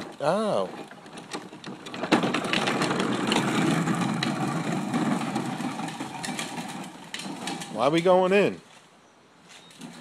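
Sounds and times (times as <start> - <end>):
plastic wheels rolling on asphalt: 0.0 - 8.9, 9.5 - 10.0.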